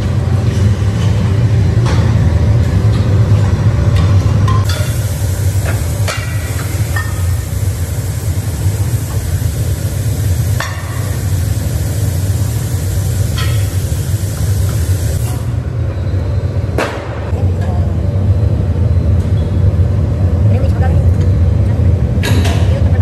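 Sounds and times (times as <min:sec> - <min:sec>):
furnace low rumble: 0:00.0 - 0:23.0.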